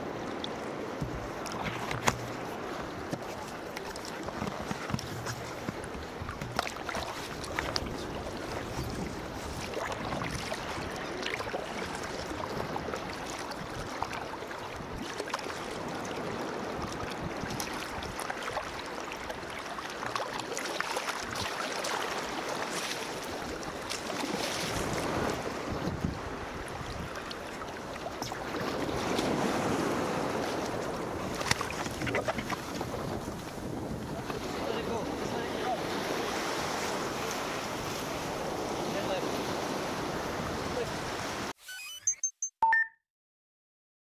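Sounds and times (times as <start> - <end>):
small waves breaking: 0.0 - 41.5
water lapping against kayak hull: 0.0 - 41.5.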